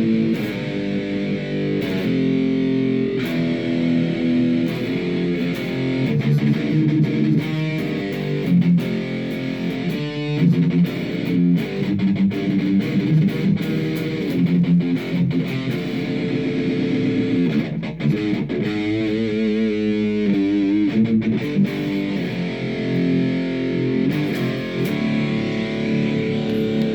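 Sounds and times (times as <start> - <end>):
distorted electric guitar: 0.0 - 26.9.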